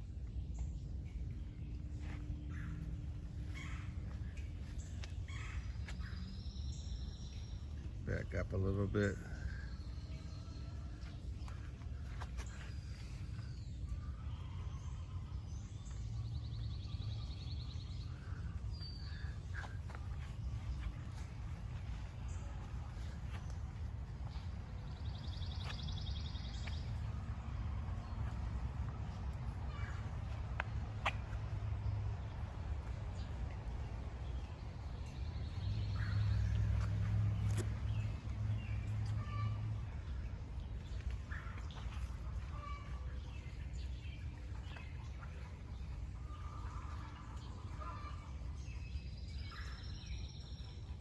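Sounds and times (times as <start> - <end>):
steady low rumble: 0.0 - 48.5
birds chirping: 0.0 - 51.0.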